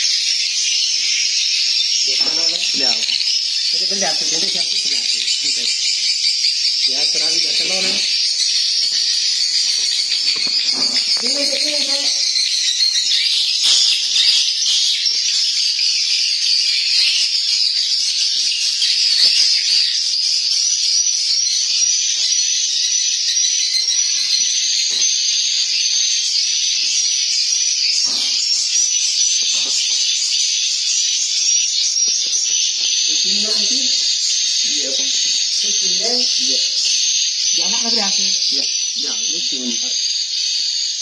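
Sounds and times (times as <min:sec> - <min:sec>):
swiftlets twittering: 0:00.0 - 0:15.4, 0:21.2 - 0:41.0.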